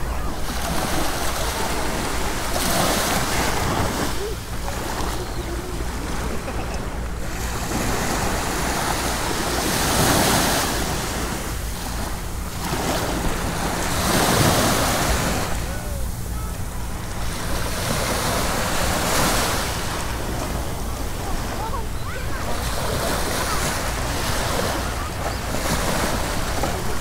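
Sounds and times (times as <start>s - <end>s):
sea waves breaking on a beach: 0.0s - 27.0s.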